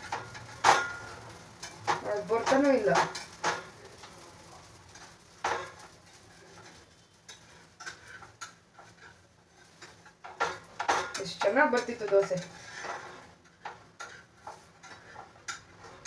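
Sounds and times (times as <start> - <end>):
metal spatula scraping a pan: 0.0 - 16.0.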